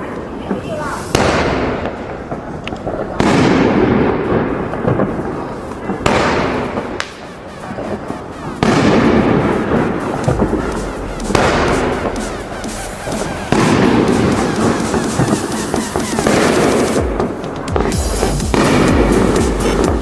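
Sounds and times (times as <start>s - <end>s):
dense firework crackling: 0.0s - 20.0s
firework bangs: 0.0s - 20.0s.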